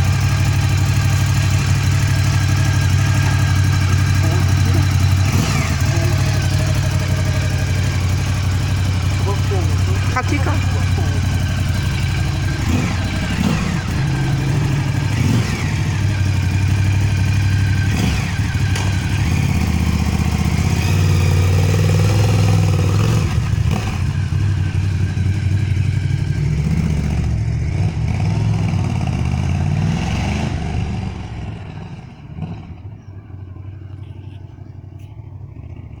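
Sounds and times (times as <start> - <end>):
motorcycle engine running: 0.0 - 29.8, 30.4 - 36.0.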